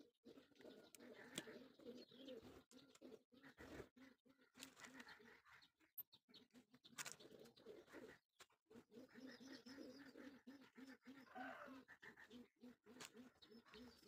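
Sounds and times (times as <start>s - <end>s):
faint low cooing: 0.0s - 5.6s, 7.1s - 14.0s.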